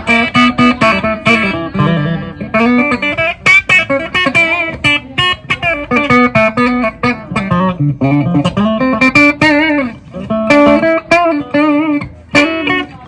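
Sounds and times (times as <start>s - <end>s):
electric guitar picked notes: 0.0s - 13.0s.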